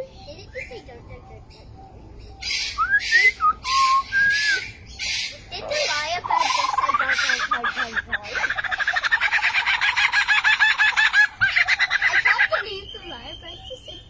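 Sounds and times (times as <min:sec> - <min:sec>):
bird whistling and chattering: 0:00.0 - 0:14.0.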